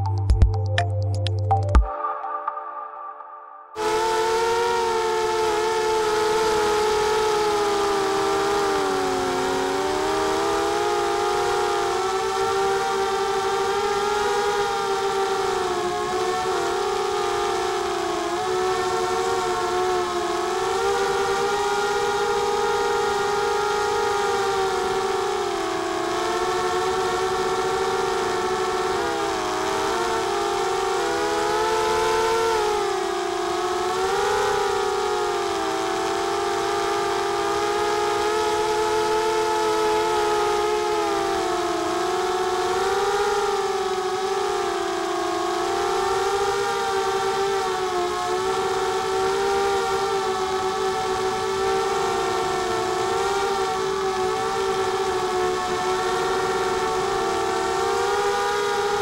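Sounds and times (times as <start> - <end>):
quadcopter motors whining: 3.8 - 59.0.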